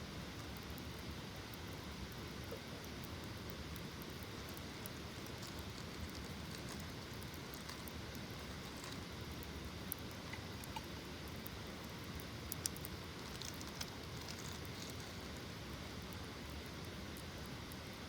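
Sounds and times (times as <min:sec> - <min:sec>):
campfire crackling and popping: 0:00.2 - 0:18.0.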